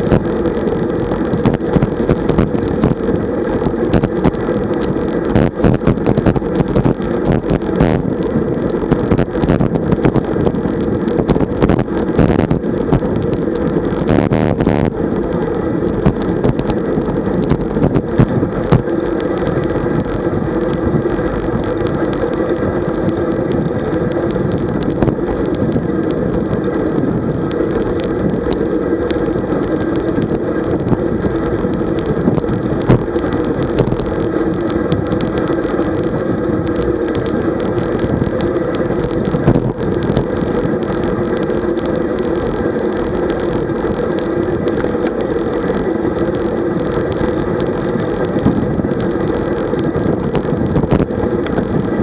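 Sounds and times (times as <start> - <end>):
bike clicks and rattles: 0.0 - 52.0
wind and road noise: 0.0 - 52.0.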